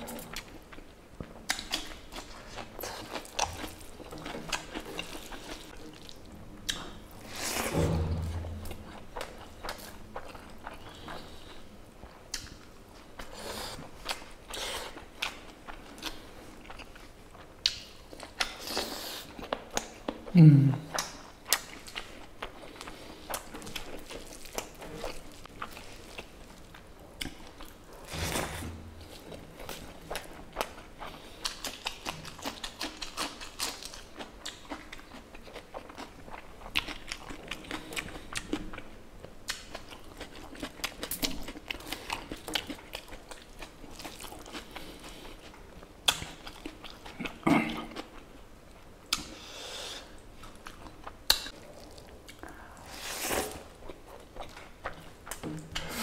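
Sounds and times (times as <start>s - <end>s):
chewing and wet mouth sounds: 0.0s - 7.5s, 8.5s - 56.0s.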